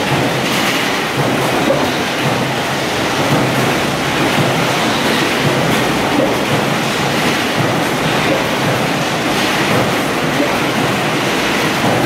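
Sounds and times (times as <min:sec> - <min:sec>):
metal cans on conveyor: 0:00.0 - 0:12.0.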